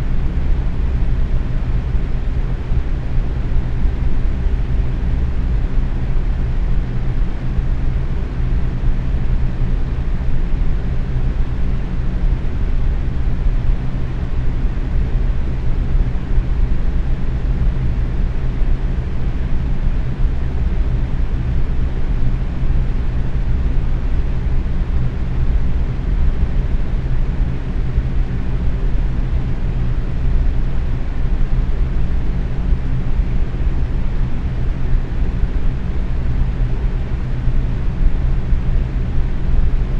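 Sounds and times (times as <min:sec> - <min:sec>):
faint motor hum: 0:00.0 - 0:39.9.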